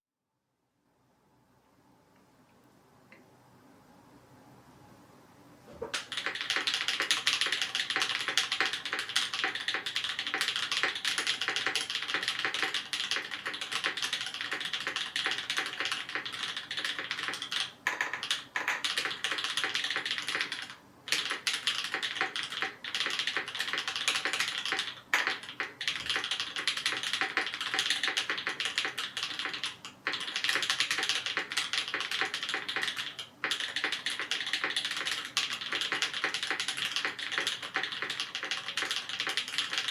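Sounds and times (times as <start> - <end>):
fast typing on mechanical keyboard: 5.9 - 39.9.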